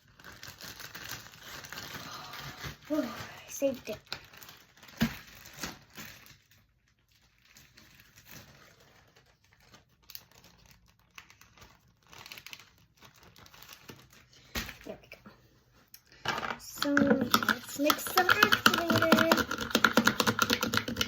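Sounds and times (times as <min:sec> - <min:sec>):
crinkling and rustling: 0:00.0 - 0:21.0.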